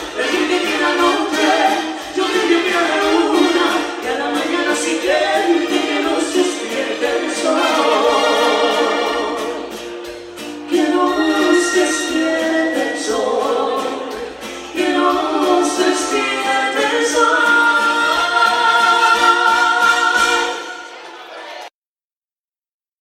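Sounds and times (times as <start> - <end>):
singers in harmony: 0.0 - 9.8, 10.7 - 21.7
dance band playing: 0.0 - 21.6.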